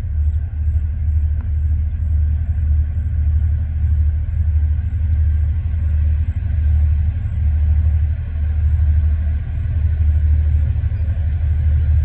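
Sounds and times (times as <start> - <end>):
distant diesel locomotive rumble: 0.0 - 12.0.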